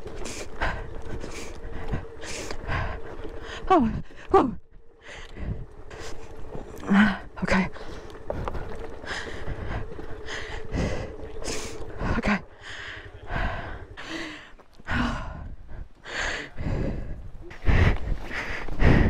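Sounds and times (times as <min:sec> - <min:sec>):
person breathing hard: 0:00.0 - 0:04.3, 0:04.9 - 0:19.0.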